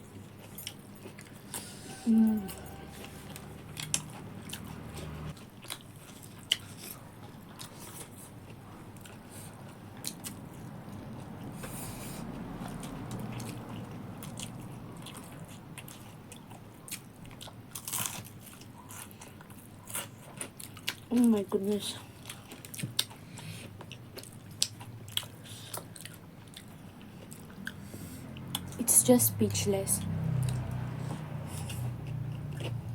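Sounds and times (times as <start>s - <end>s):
chewing with crunching: 0.0s - 28.8s, 30.0s - 32.9s.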